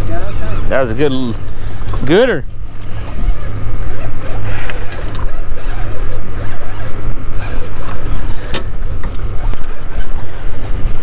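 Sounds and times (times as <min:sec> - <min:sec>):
choppy water at boat side: 0:00.0 - 0:11.0
wind rumble on microphone: 0:00.0 - 0:11.0.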